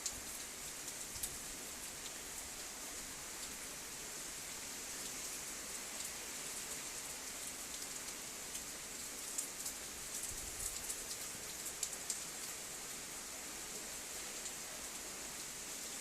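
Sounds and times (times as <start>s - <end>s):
rain and sleet hissing: 0.0s - 16.0s.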